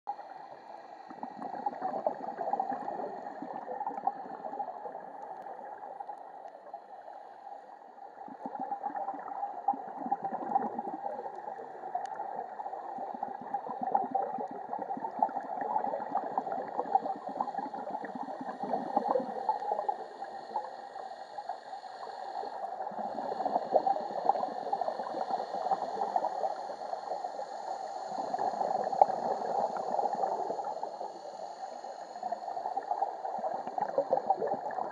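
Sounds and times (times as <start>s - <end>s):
divers' exhaled air bubbling: 0.1s - 6.1s, 8.0s - 31.1s, 31.9s - 34.9s
underwater watery hiss: 0.2s - 34.9s.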